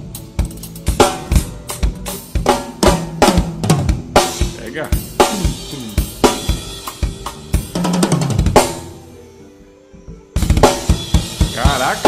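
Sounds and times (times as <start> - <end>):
bass drum: 0.0 - 8.9, 10.4 - 12.0.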